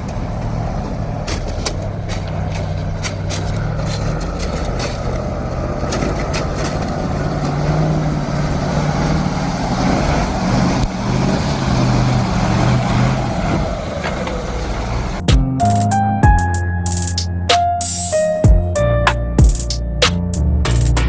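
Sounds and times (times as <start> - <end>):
heavy vehicle engine humming: 0.0 - 21.0.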